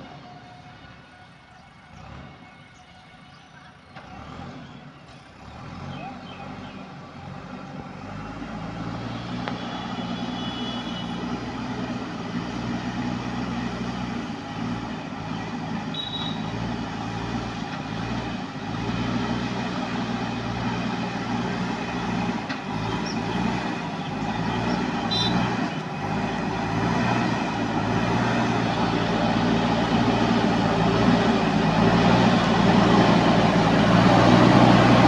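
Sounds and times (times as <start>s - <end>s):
diesel engine running under load: 0.0s - 35.0s.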